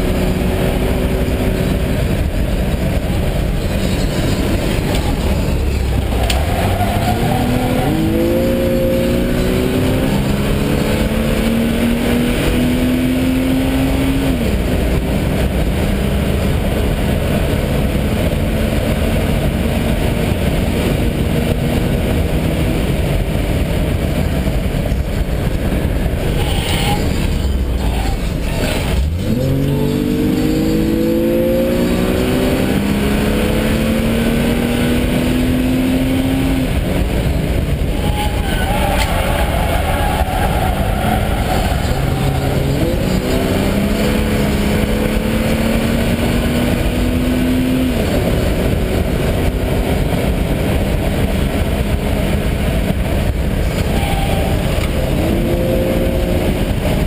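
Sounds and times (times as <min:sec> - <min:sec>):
race car engine under load: 0:00.0 - 0:57.0
wind and road noise: 0:00.0 - 0:57.0.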